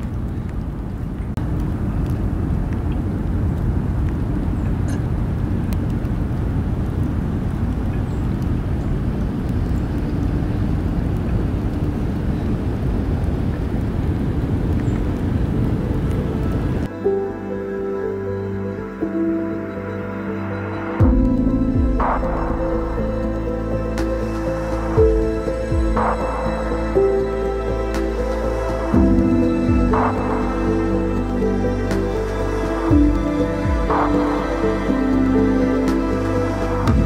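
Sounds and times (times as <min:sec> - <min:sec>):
distant traffic rumble: 0:00.0 - 0:37.0.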